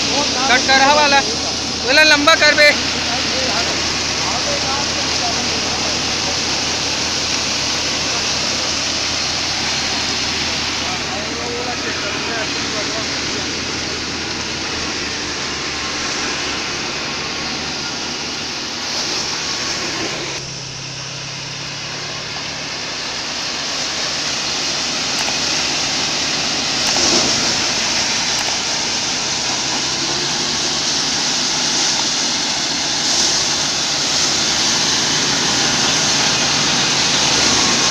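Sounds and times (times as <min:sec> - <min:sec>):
low engine hum: 0:00.0 - 0:37.9
thresher running: 0:00.0 - 0:37.9.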